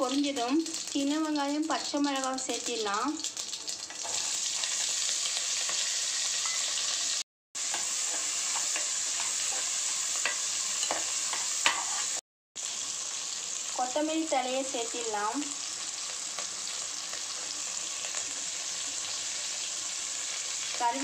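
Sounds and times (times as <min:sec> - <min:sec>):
onions frying in hot oil: 0:00.0 - 0:21.0.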